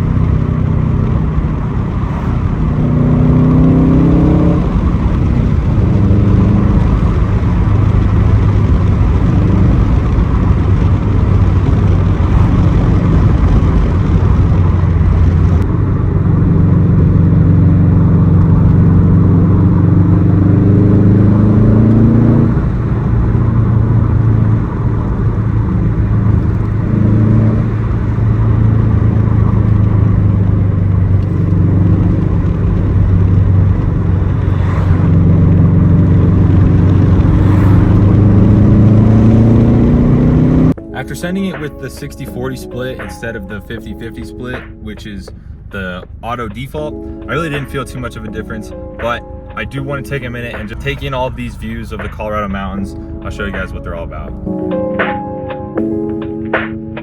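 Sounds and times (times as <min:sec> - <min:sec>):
car engine revving while driving: 0:00.0 - 0:54.8.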